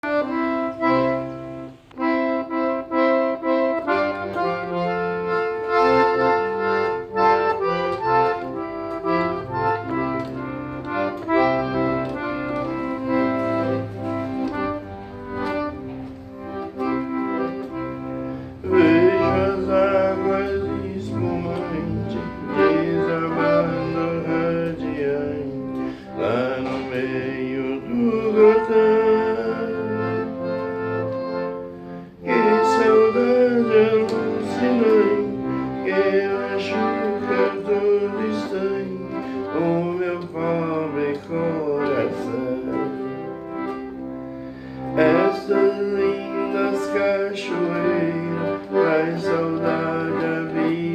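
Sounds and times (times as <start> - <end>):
instrumental country music: 0.0 - 50.9.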